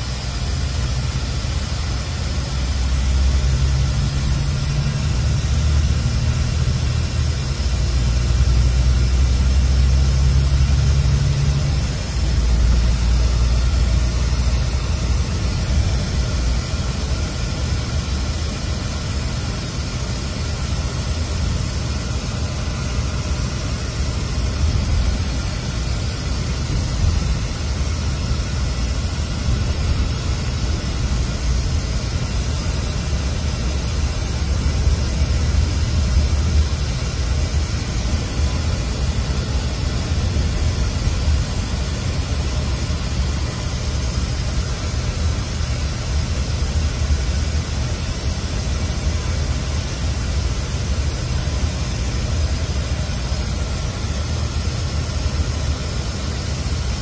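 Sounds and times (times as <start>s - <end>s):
air conditioning hiss: 0.0s - 57.0s
low engine drone: 0.0s - 57.0s.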